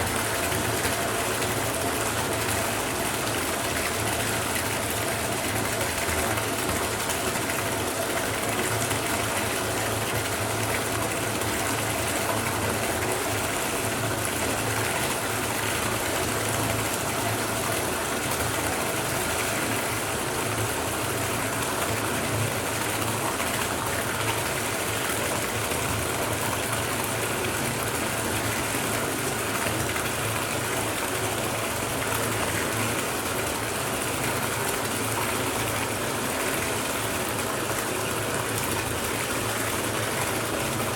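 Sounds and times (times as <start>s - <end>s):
water gushing into bathtub: 0.0s - 40.9s.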